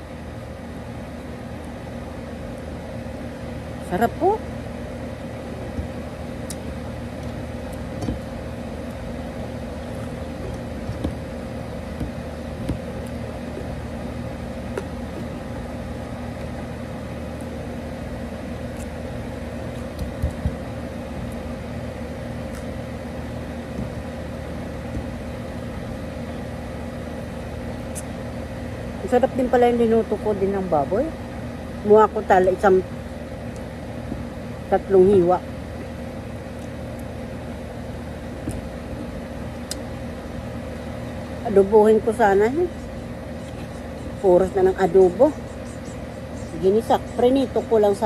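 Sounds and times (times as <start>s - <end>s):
air conditioner humming: 0.0s - 48.0s.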